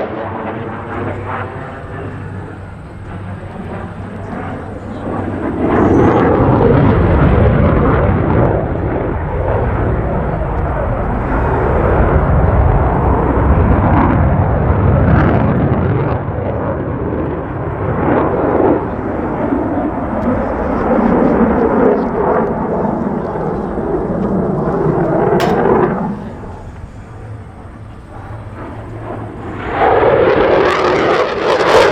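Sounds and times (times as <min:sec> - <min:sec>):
fighter jet engine roar: 0:00.0 - 0:31.9.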